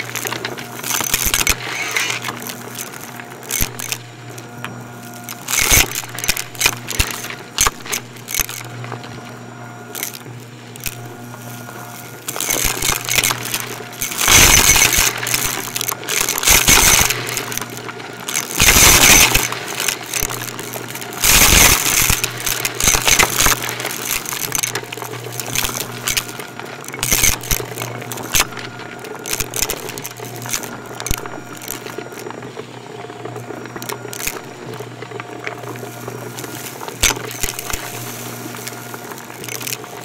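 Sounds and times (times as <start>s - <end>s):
loud crunching: 0.0s - 32.5s, 33.1s - 40.0s
debris rattling in vacuum: 0.0s - 40.0s
vacuum cleaner motor hum: 0.0s - 40.0s.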